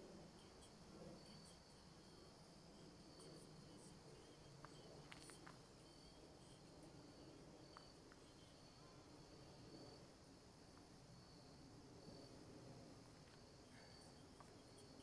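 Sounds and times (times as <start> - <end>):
faint insect chirping: 0.0 - 15.0.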